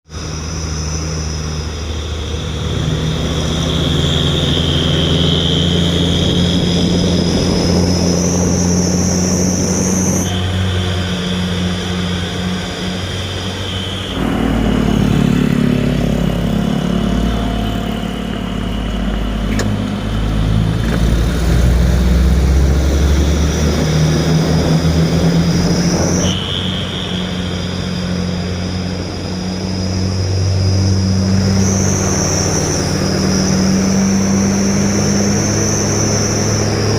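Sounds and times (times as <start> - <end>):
high whine: 0.0 - 36.9
diesel truck engine revving: 0.1 - 36.9.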